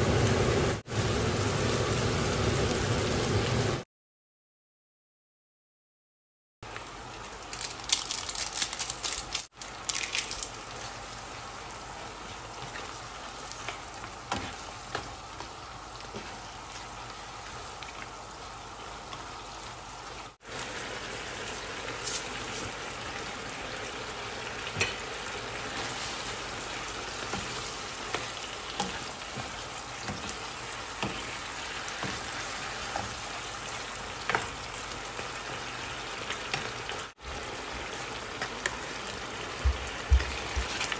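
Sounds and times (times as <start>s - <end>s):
chicken sizzling in a frying pan: 0.0s - 3.8s, 6.7s - 40.9s.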